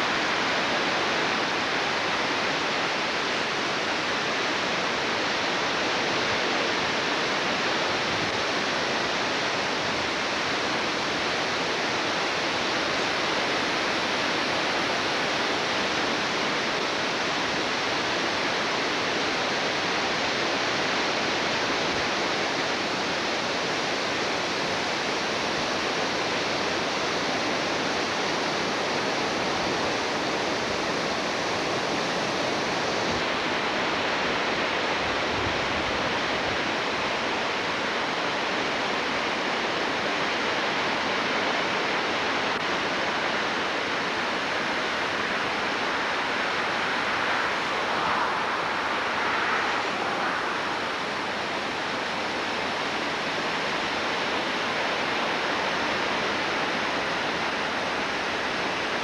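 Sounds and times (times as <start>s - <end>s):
creek rushing in flood: 0.0s - 59.0s.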